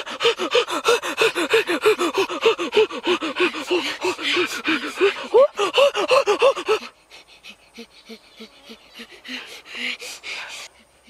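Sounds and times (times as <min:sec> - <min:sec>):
rhythmic panting gasps: 0:00.0 - 0:11.0.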